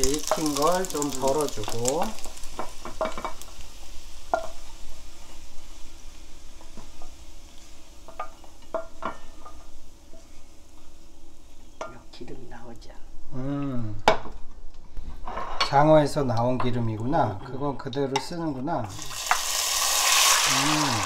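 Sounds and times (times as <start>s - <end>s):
faint sizzle of hot oil: 0.0s - 14.3s, 18.4s - 21.0s.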